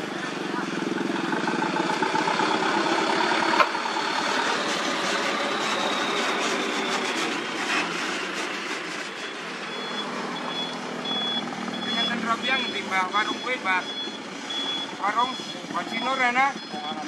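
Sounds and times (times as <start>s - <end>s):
truck engine passing: 0.0s - 17.0s
reversing beeper: 1.2s - 17.0s.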